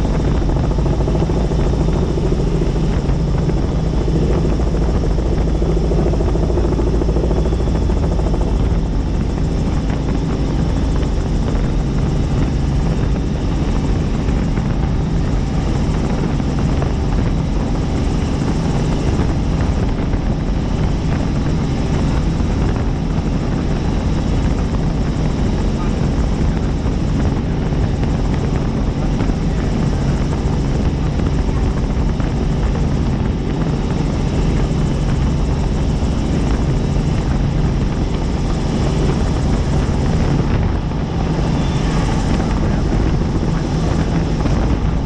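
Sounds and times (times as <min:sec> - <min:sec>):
helicopter rotor and engine drone: 0:00.0 - 0:45.0.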